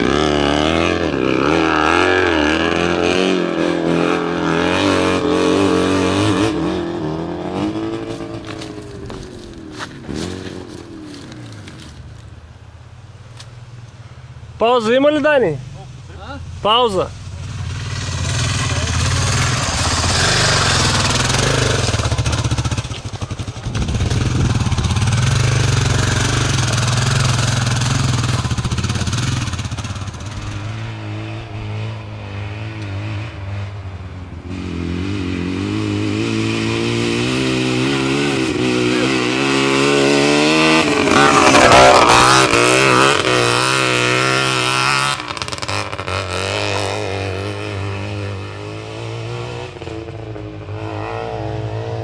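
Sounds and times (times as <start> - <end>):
dirt bike engine revving: 0.0 - 12.2, 15.0 - 52.0.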